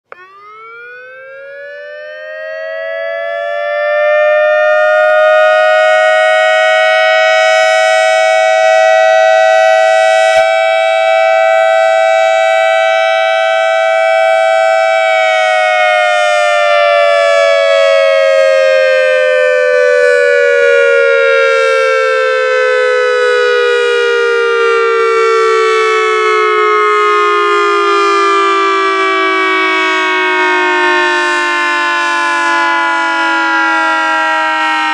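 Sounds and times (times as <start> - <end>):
warning siren: 0.0 - 34.9.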